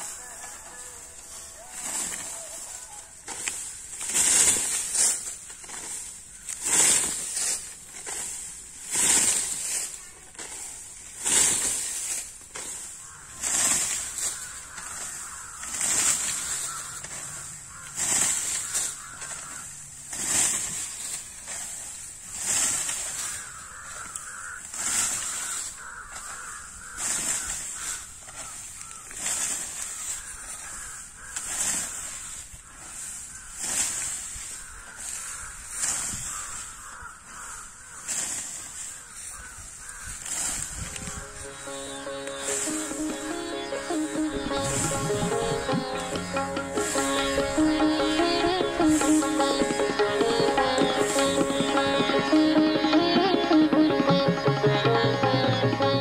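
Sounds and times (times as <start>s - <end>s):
scythe swishing through rice stalks: 0.0s - 52.6s.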